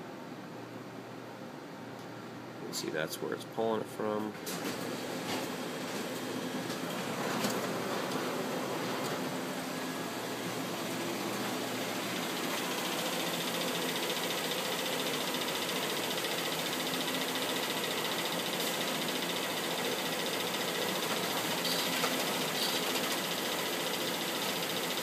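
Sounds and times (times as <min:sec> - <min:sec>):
copier whirring: 0:02.6 - 0:25.0.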